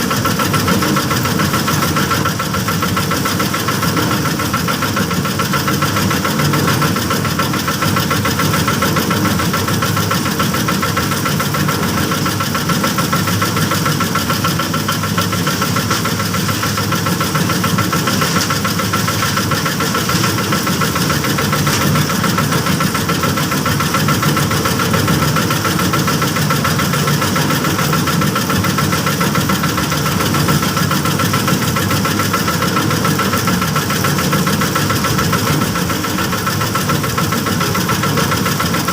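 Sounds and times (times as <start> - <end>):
small engine running steadily: 0.0 - 38.9.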